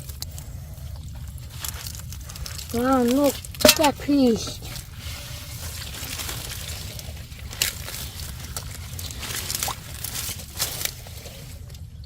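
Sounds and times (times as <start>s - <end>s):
hands squelching through mud: 0.0s - 12.0s.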